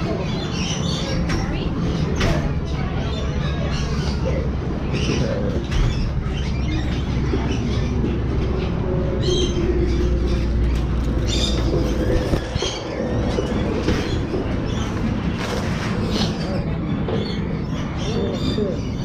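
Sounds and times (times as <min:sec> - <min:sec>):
birds squawking: 0:00.0 - 0:19.0.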